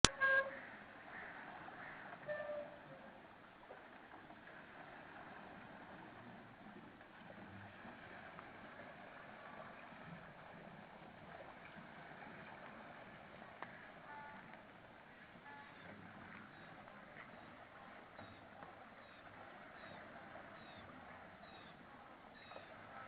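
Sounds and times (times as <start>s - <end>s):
water wheel spilling water: 0.0s - 23.0s.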